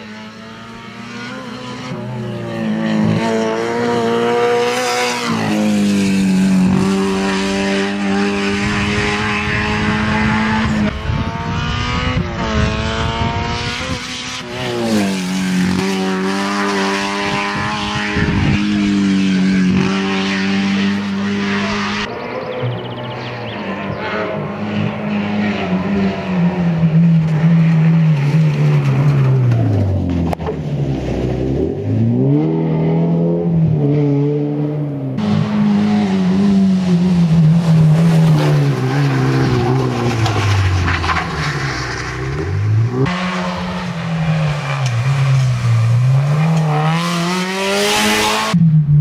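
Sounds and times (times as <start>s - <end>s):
rally car engine revving high: 0.0s - 49.0s
tyre and road noise: 0.0s - 49.0s.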